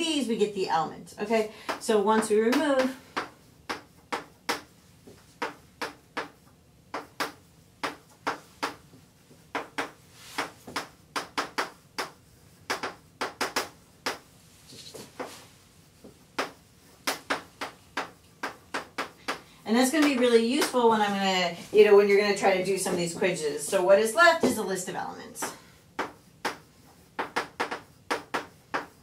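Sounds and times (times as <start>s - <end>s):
chalk tapping and scratching blackboard: 1.7s - 29.0s.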